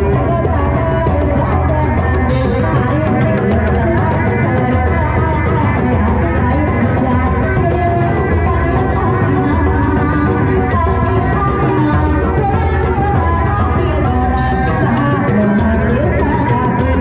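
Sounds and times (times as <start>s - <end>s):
steady drumming: 0.0s - 17.0s.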